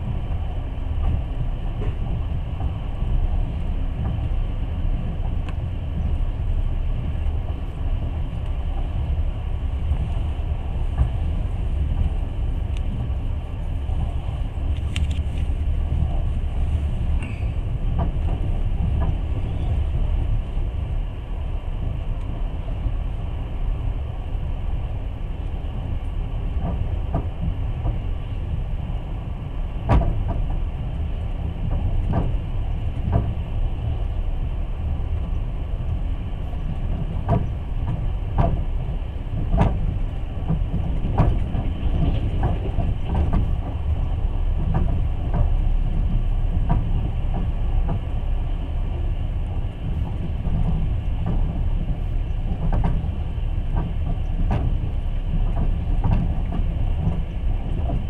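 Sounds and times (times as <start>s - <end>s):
train carriage rumbling on rails: 0.0s - 58.0s.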